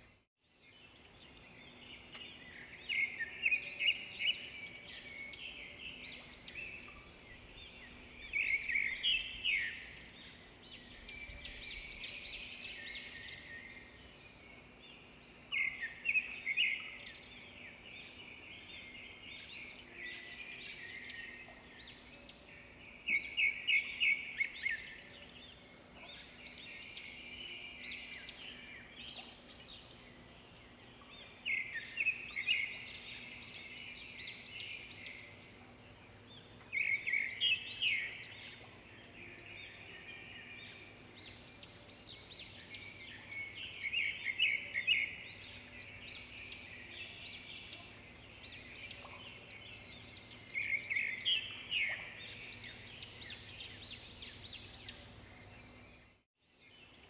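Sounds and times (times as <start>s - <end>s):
birds chirping and twittering: 0.0s - 57.0s.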